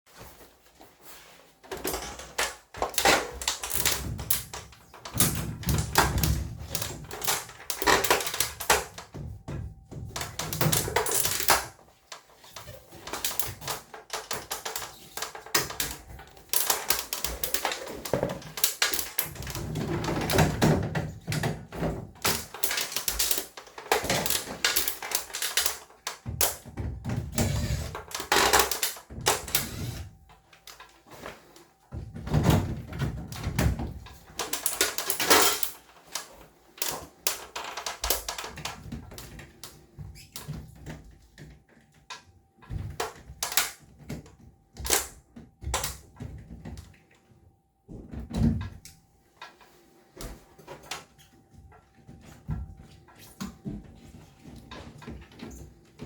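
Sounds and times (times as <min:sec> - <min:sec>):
parts clattering and clicking: 0:00.1 - 0:47.0.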